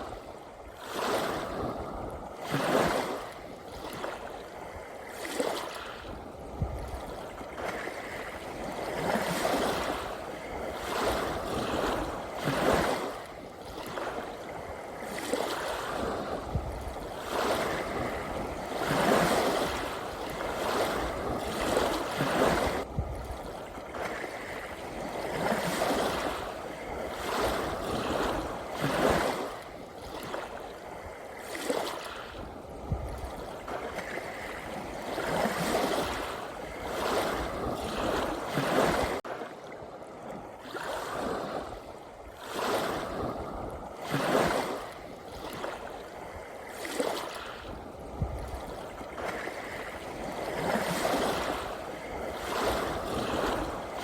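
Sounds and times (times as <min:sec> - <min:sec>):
small ocean waves washing: 0:00.0 - 0:54.0.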